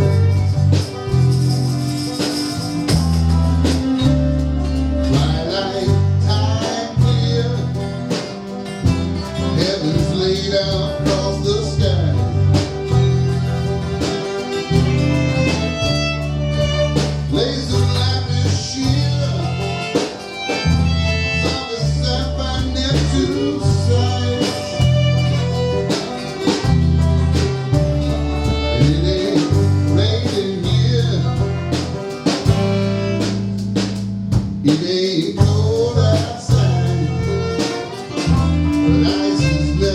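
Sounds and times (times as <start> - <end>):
band playing live: 0.0 - 39.9
loud bass notes: 0.0 - 39.9.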